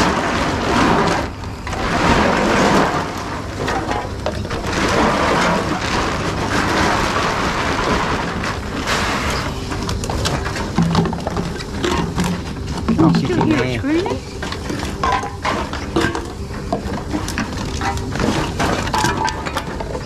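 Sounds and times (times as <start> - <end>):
plastic bottles and cans clattering: 0.0 - 20.0.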